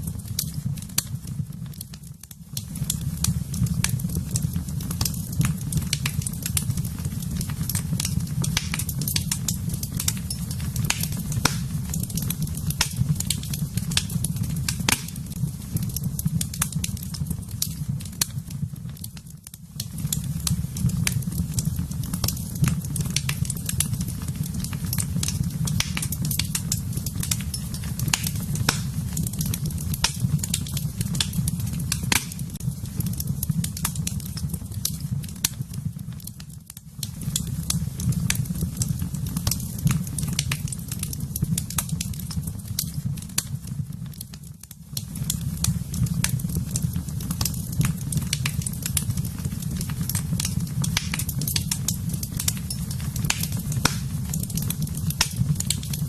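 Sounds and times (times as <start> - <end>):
fire popping and crackling: 0.0 - 56.0
wood fire roaring: 0.0 - 56.0.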